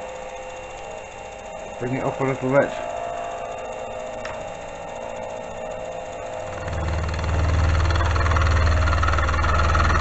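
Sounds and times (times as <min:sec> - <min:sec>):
milling machine spindle whine: 0:00.0 - 0:10.0.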